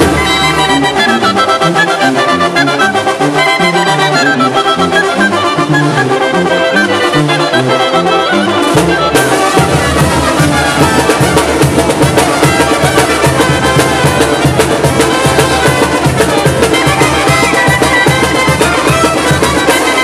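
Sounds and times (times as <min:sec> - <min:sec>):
brass band playing dance music: 0:00.0 - 0:20.0
tuba bass line: 0:00.0 - 0:20.0.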